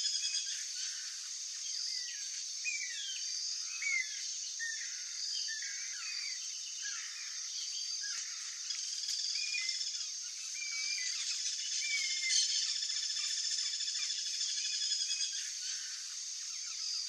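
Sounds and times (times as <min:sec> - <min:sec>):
steady high-pitched hiss: 0:00.0 - 0:17.0.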